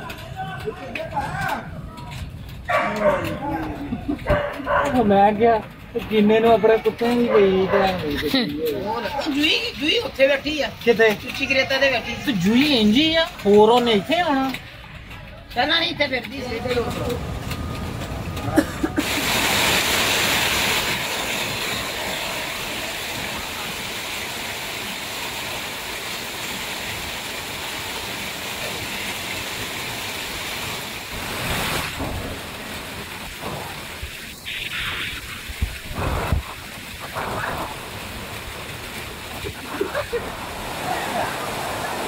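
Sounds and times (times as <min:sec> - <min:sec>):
heavy rain on water: 0:00.0 - 0:42.0.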